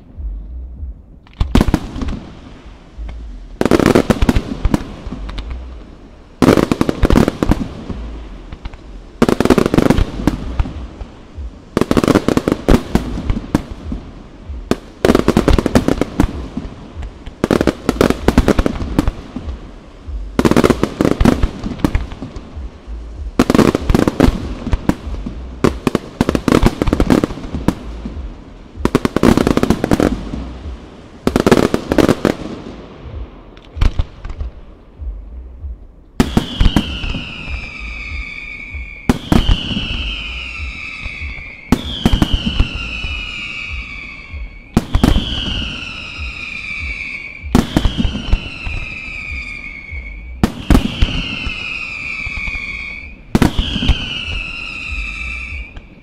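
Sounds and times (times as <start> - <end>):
fireworks bangs with crackling: 1.1 - 3.0, 3.6 - 56.0.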